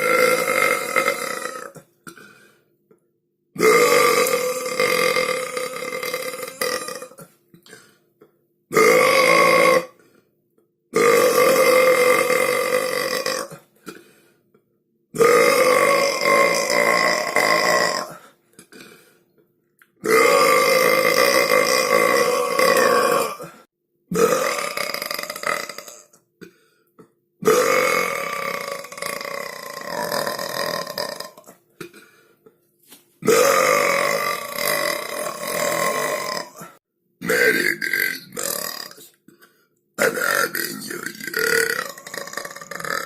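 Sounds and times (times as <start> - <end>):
person belching: 0.0 - 2.4, 3.6 - 7.9, 8.7 - 10.0, 10.9 - 13.7, 15.2 - 19.0, 19.9 - 32.1, 33.2 - 39.2, 40.0 - 43.0.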